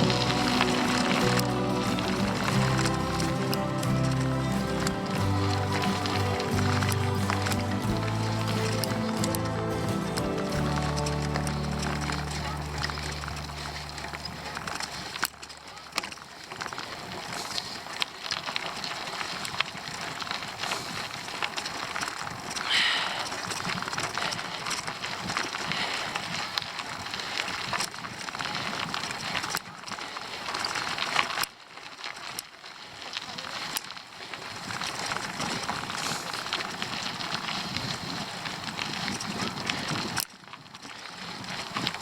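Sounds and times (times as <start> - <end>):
bicycle tyres rolling on road: 0.0 - 42.0.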